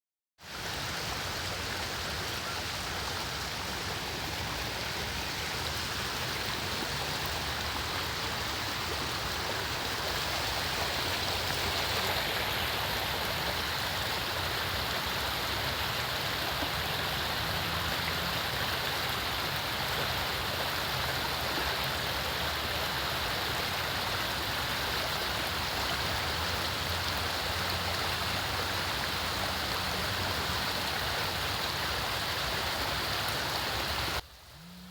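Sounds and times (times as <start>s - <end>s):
flowing water rushing: 0.4s - 34.9s.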